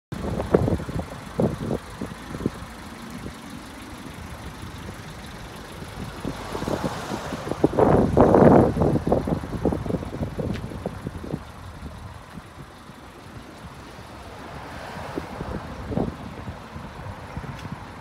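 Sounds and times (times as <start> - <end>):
wind buffeting microphone: 0.2 - 3.4, 4.2 - 13.9, 14.5 - 18.0.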